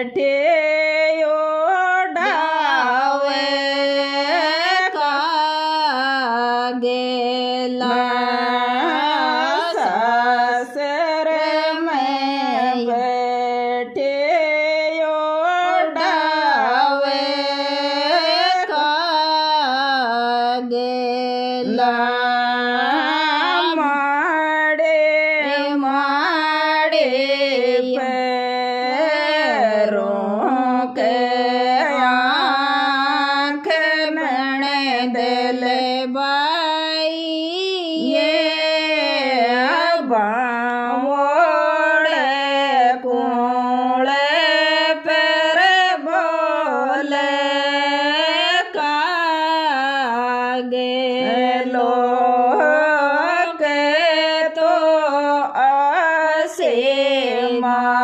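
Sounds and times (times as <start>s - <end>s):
woman singing folk song: 0.0s - 58.0s.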